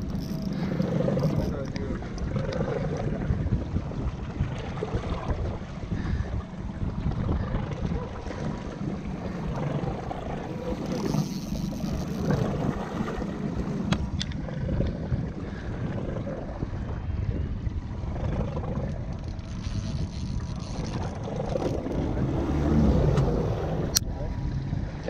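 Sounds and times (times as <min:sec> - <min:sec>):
boat engine low rumble: 0:00.0 - 0:25.0
wind buffeting microphone: 0:00.0 - 0:25.0.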